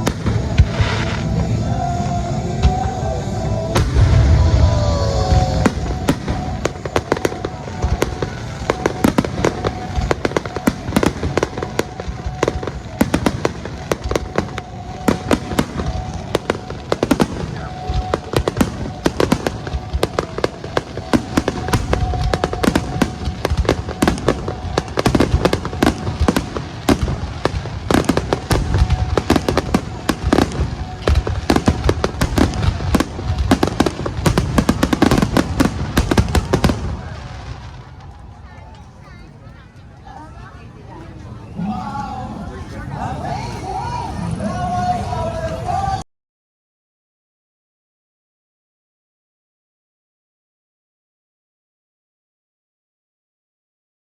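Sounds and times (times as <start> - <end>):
fireworks bursts and crackling: 0.0 - 46.0.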